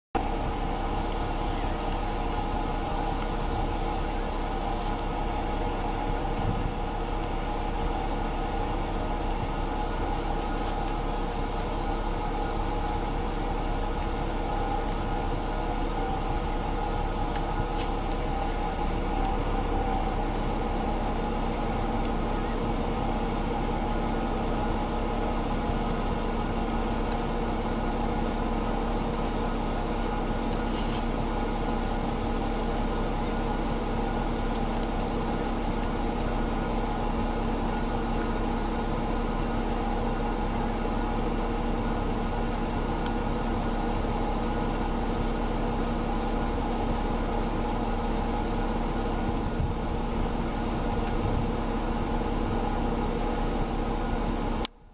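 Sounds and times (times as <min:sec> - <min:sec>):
steady mechanical hum: 0:00.2 - 0:54.9.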